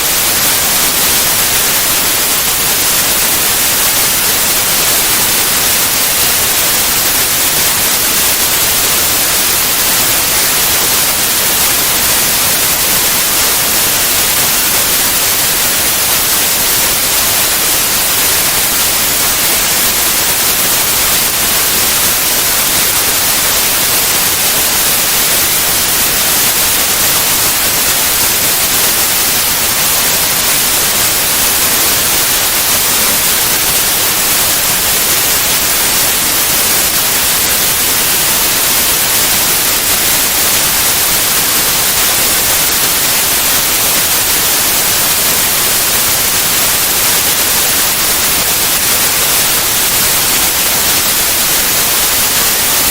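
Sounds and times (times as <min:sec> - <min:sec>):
white noise hiss: 0:00.0 - 0:52.9.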